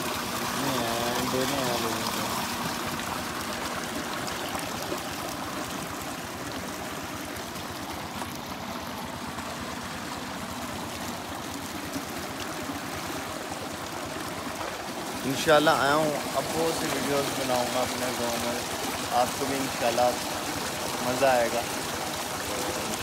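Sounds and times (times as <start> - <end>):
water rushing in a channel: 0.0 - 23.0.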